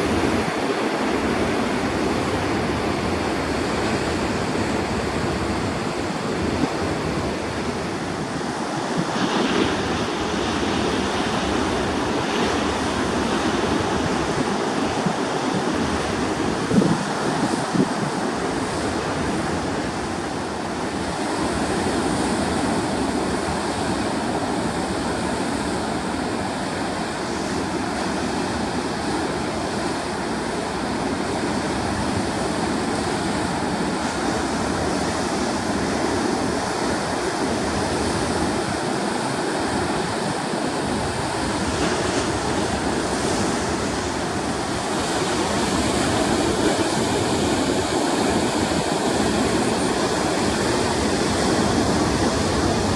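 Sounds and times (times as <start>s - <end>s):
ocean surf breaking: 0.0s - 52.9s.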